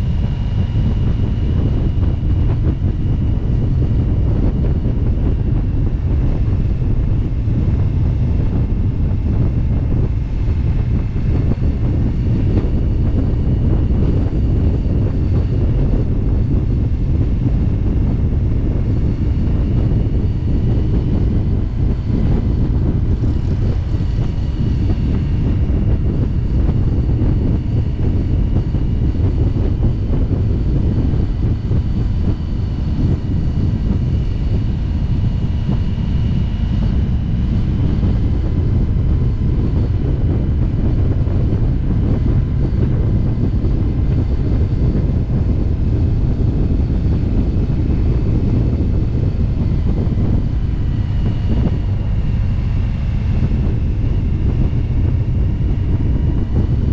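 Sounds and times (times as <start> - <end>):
motorcycle engine rumble: 0.0 - 56.9
wind noise on microphone: 0.0 - 56.9.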